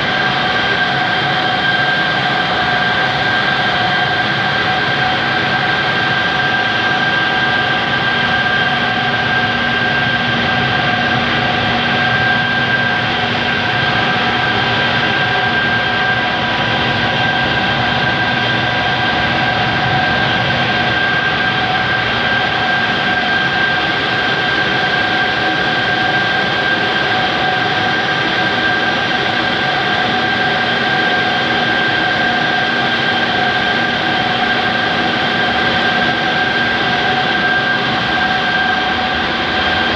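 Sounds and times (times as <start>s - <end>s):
compressor droning with high whine: 0.0s - 39.9s.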